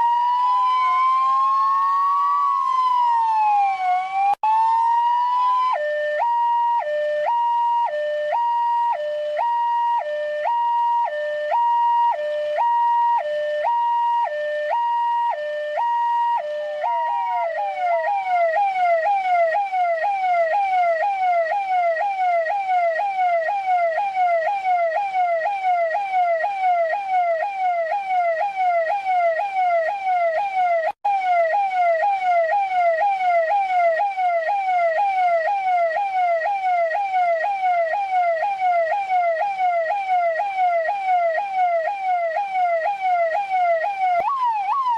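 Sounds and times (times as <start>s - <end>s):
police car siren: 0.0s - 44.9s.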